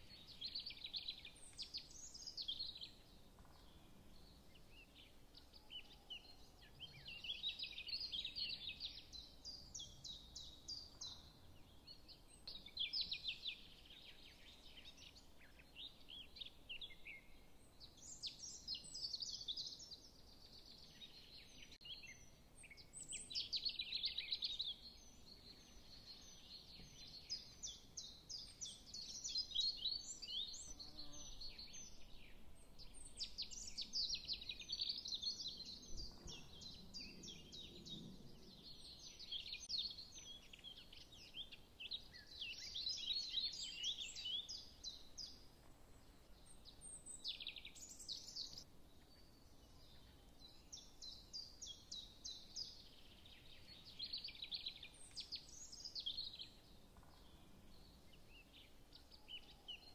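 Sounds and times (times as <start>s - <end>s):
small birds twittering: 0.0s - 59.9s.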